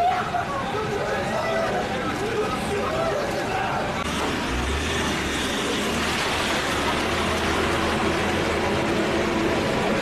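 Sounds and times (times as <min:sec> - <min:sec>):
ambulance engine humming: 0:00.0 - 0:10.0
background noise: 0:00.0 - 0:10.0.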